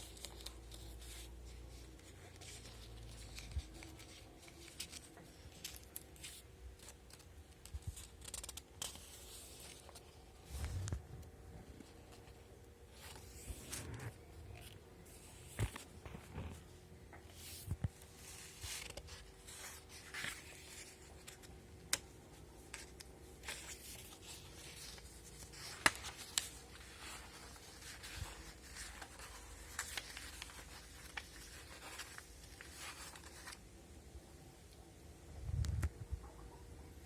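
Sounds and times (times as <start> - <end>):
paper rustling: 0.0 - 33.7
faint steady hum: 0.0 - 37.0.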